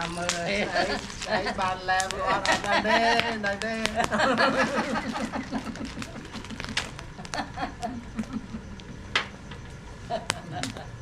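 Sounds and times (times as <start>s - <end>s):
voices talking: 0.0s - 11.0s.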